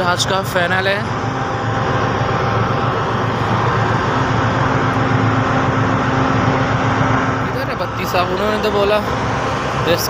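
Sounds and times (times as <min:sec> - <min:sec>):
higher machinery hum: 0:00.0 - 0:10.0
ship machinery droning: 0:00.0 - 0:10.0.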